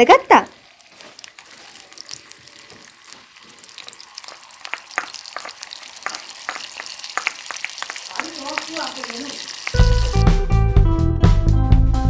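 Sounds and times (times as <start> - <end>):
lentils sizzling and popping in oil: 0.0 - 10.3.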